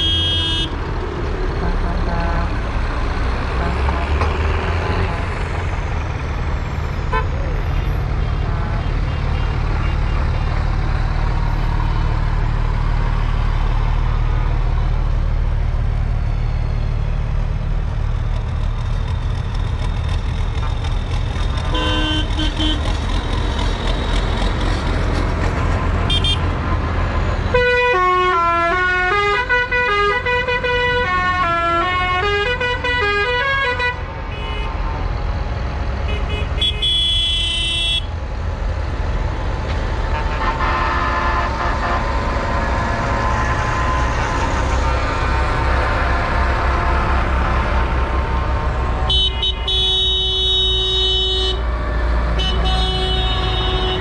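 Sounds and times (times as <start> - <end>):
tractor engines rumbling: 0.0 - 54.0.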